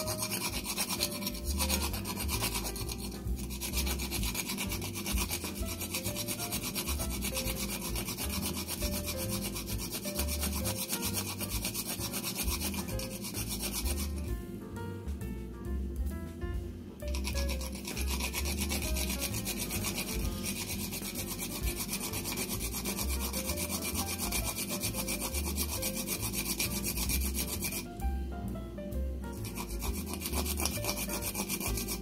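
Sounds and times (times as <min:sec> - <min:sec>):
nutmeg grating on metal grater: 0:00.0 - 0:14.4, 0:17.0 - 0:28.0, 0:29.2 - 0:32.0
soft background music: 0:00.0 - 0:32.0.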